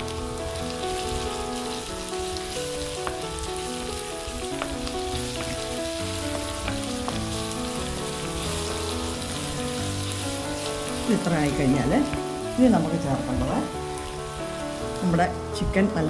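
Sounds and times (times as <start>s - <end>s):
background music of held notes: 0.0s - 16.0s
food frying in hot oil: 0.0s - 16.0s.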